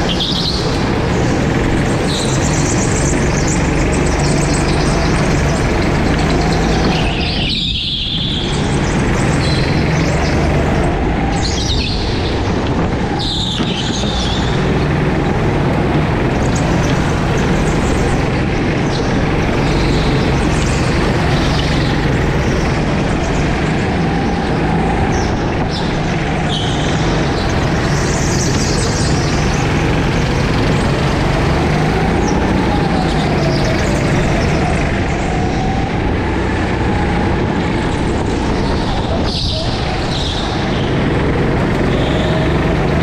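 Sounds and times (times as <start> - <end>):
go-kart engines running: 0.0 - 43.0.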